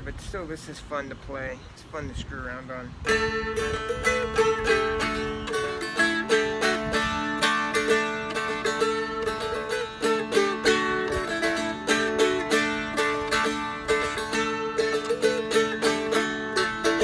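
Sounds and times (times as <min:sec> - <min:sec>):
strummed guitar with drone strings: 0:03.0 - 0:17.0.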